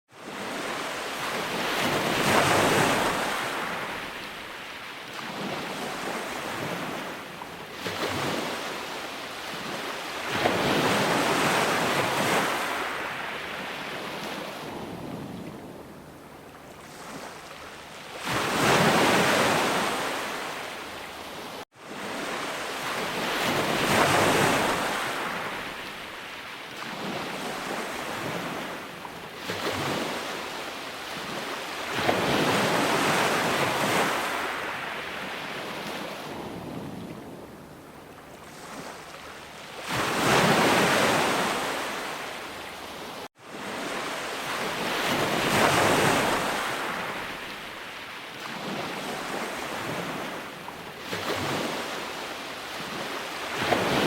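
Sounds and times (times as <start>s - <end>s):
ocean waves breaking: 0.1s - 54.0s.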